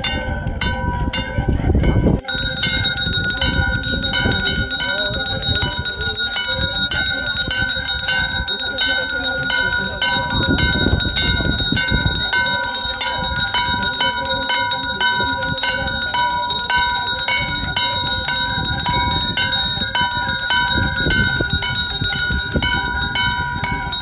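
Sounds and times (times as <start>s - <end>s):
bell rung rapidly: 0.0s - 24.0s.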